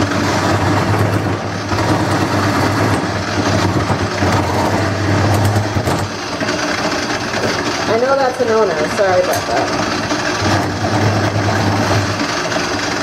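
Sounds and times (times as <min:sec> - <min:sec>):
gouge cutting spinning wood: 0:00.0 - 0:13.0
wood lathe motor hum: 0:00.0 - 0:13.0.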